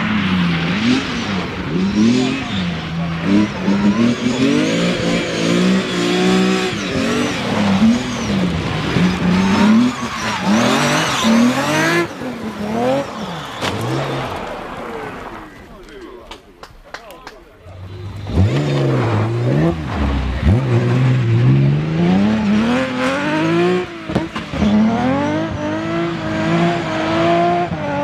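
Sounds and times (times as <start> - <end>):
rally car engine revving: 0.0 - 15.7, 17.6 - 28.0.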